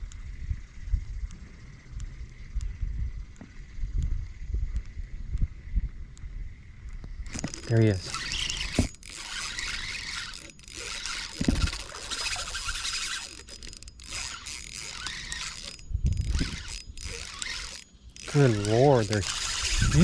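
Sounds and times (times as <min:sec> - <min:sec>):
fishing reel drag whirring: 0:00.0 - 0:20.0.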